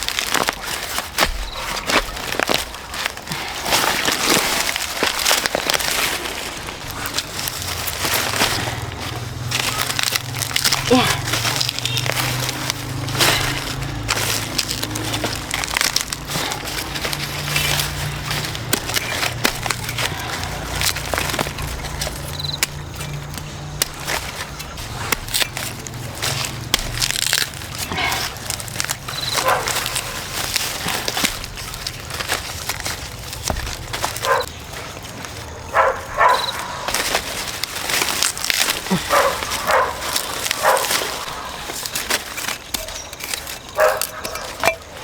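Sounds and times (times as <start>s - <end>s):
crackling and crunching clicks: 0.0s - 45.0s.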